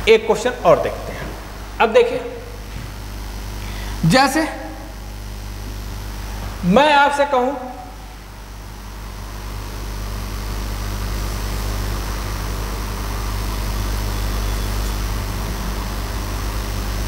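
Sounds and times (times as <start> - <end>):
low mechanical hum with hiss: 0.0 - 17.0.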